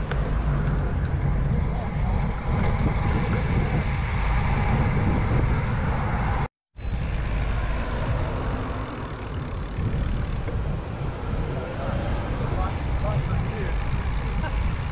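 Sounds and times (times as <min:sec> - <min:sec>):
wind buffeting microphone: 0:00.0 - 0:06.5, 0:07.2 - 0:14.9.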